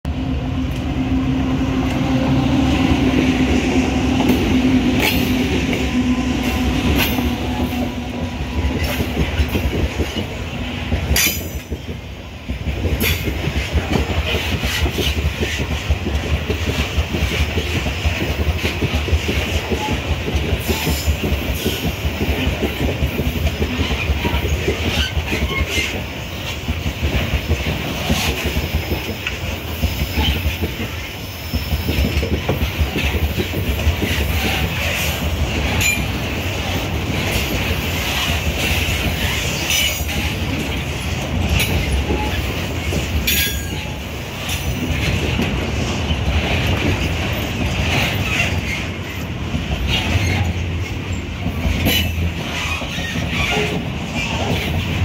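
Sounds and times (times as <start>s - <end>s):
diesel locomotive engines droning: 0.0s - 55.0s
train wheel rumble: 0.0s - 55.0s
clickety-clack over rail joints: 0.6s - 55.0s.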